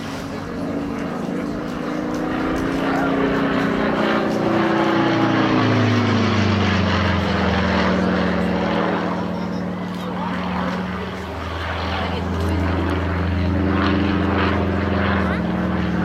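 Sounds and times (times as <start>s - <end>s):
propeller aircraft flying past: 0.0s - 16.0s.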